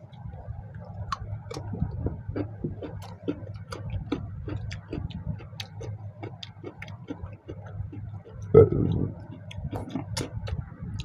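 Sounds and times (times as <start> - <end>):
low steady hum: 0.0 - 11.0
wet chewing and lip-smacking: 1.0 - 11.0.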